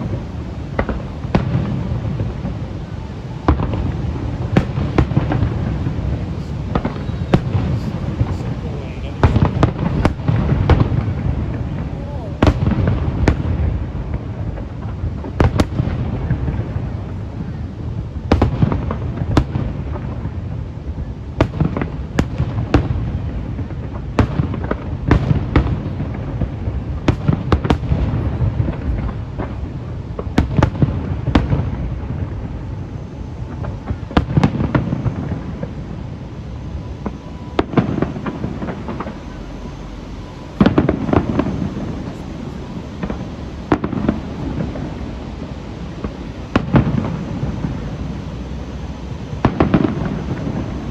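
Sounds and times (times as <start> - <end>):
low rumble: 0.0 - 21.2, 25.8 - 50.9
fireworks bangs: 0.0 - 50.9.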